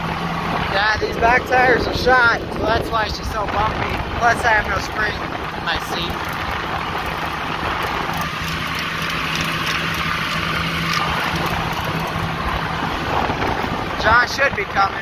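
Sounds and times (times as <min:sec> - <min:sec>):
tractor engine running: 0:00.0 - 0:15.0
wind and road noise: 0:00.0 - 0:15.0.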